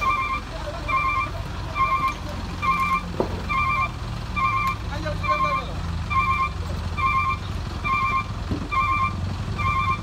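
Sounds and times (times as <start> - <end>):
diesel truck engine idling: 0.0 - 10.0
reversing alarm beeping: 0.0 - 10.0.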